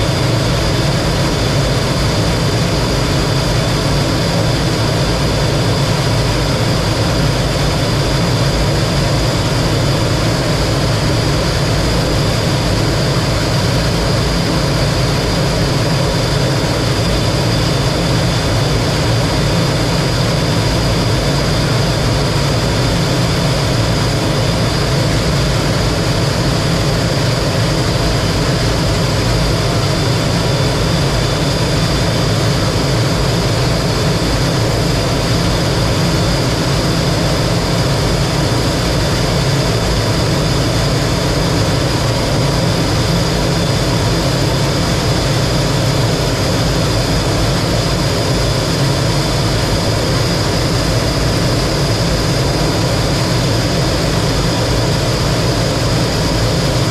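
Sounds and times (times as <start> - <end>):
high engine whine: 0.0 - 56.9
jet engine drone: 0.0 - 56.9.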